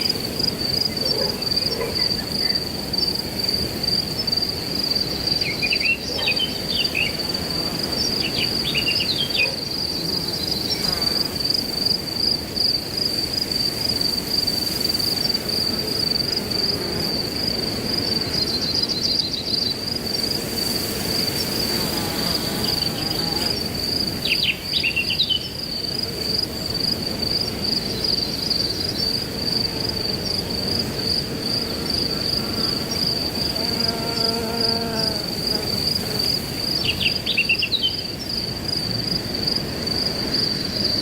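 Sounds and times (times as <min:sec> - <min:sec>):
wind rustling grass: 0:00.0 - 0:33.8, 0:34.6 - 0:41.0
crickets trilling: 0:00.0 - 0:41.0.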